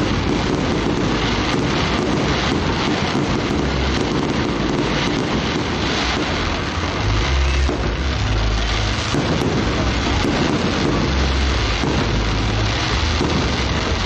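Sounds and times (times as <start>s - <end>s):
crowd voices: 0.0s - 14.0s
fireworks booming and crackling: 0.0s - 14.0s.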